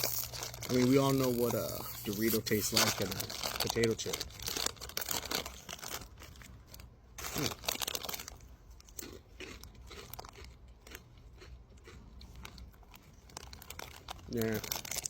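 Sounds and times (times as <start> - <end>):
person crunching corn chips: 0.0 - 15.0.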